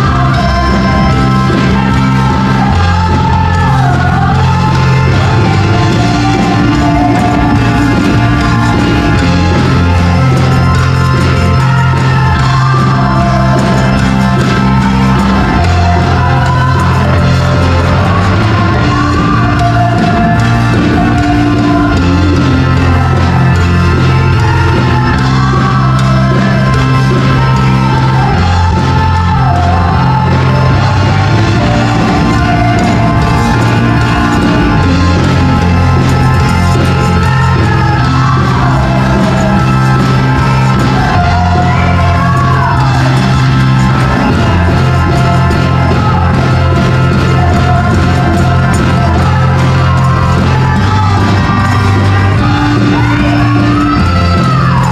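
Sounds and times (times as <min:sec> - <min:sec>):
bass line: 0:00.0 - 0:54.9
gospel band playing: 0:00.0 - 0:54.9
women singing: 0:00.0 - 0:54.9.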